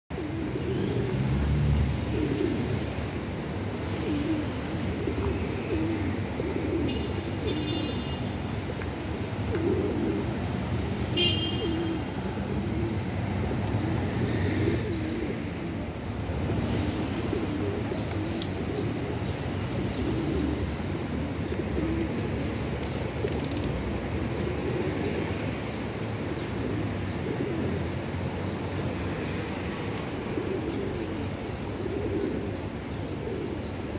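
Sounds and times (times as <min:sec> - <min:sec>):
pigeons cooing: 0:00.1 - 0:08.1, 0:09.3 - 0:16.0, 0:16.8 - 0:28.1, 0:29.7 - 0:33.9
traffic rumble: 0:00.1 - 0:33.9.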